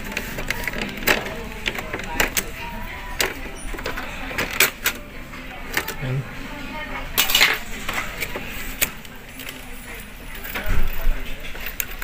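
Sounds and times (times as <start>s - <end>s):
plastic parts clicking and rattling: 0.0s - 5.0s, 7.2s - 12.0s.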